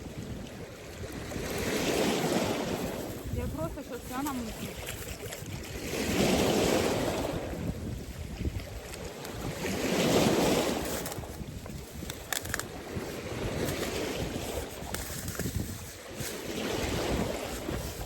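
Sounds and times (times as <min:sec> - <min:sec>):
sea waves washing onto shore: 0:00.0 - 0:18.0
wind on microphone: 0:00.0 - 0:18.0.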